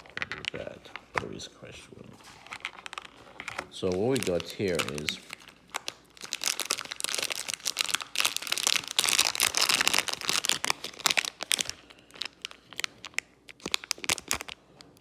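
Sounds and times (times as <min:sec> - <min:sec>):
packaging crinkling and crackling: 0:00.0 - 0:01.4, 0:02.2 - 0:15.0.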